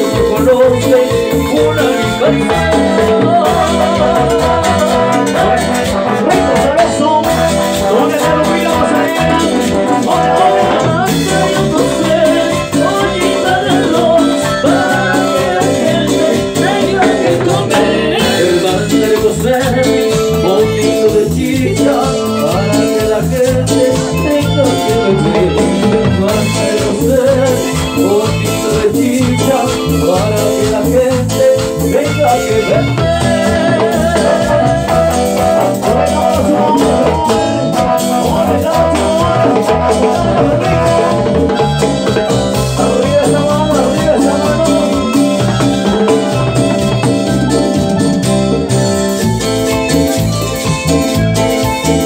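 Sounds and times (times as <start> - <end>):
men singing: 0.0 - 49.4
live latin dance band: 0.0 - 52.0.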